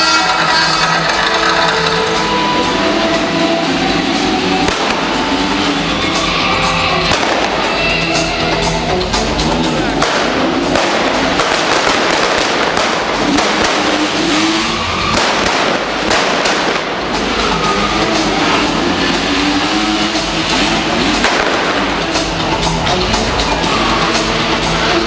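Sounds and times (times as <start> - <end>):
loud show music: 0.0 - 25.0
motorcycle engines revving: 0.0 - 25.0.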